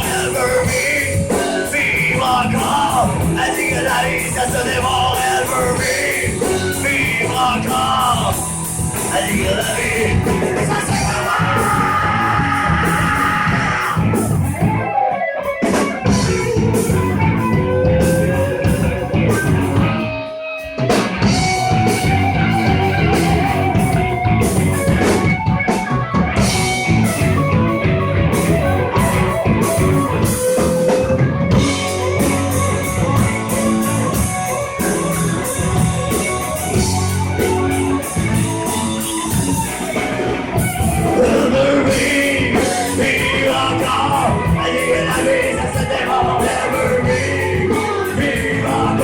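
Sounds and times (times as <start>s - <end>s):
bass guitar: 0.0s - 49.0s
drum kit: 0.0s - 49.0s
electric guitar lead: 0.0s - 49.0s.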